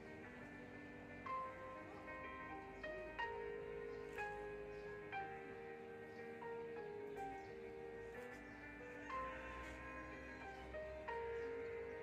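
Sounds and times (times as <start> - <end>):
slow melody of held notes: 0.0 - 12.0.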